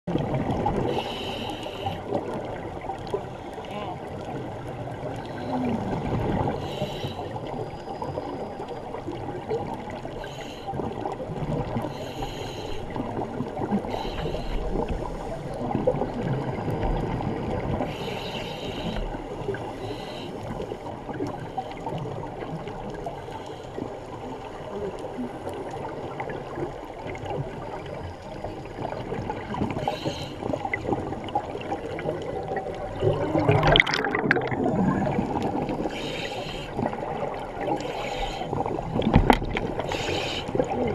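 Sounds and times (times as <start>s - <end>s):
regulator bubbles gurgling underwater: 0.1s - 40.9s.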